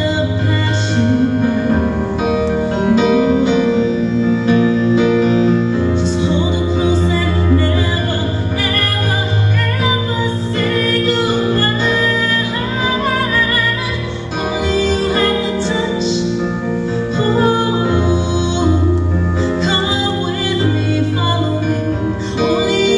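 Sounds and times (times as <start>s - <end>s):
woman singing: 0.0s - 5.0s, 6.0s - 22.9s.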